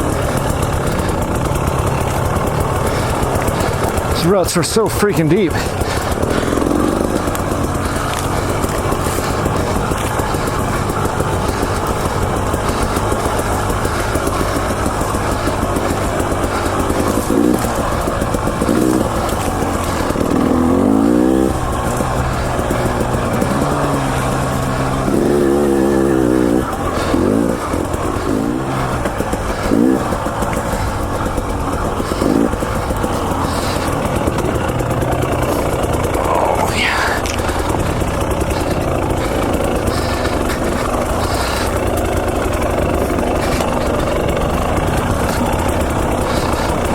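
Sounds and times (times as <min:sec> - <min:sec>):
two-stroke motorcycle engine revving: 0:00.0 - 0:46.9.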